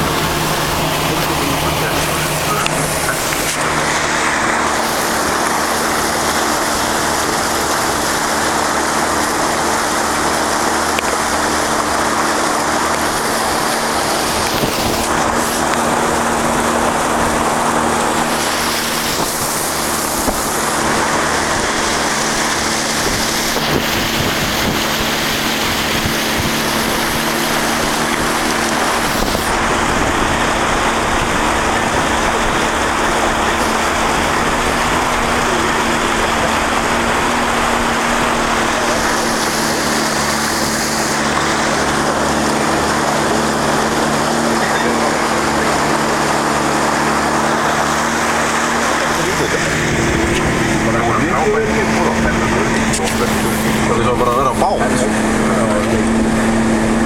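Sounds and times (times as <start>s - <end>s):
vehicle engine running: 0.0s - 57.0s
water splashing against vehicle: 0.0s - 57.0s.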